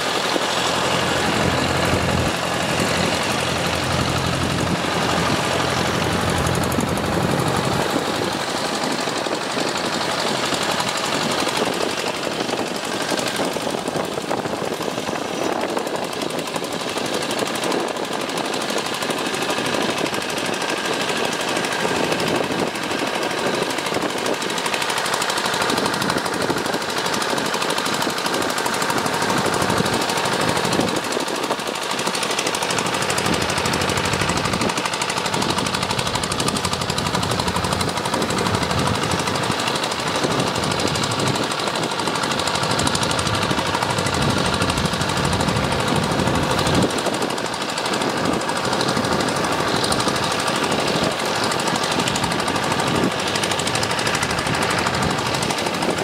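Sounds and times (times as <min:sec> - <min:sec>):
rapid machine clatter: 0:00.0 - 0:56.0
small engine running: 0:00.0 - 0:56.0.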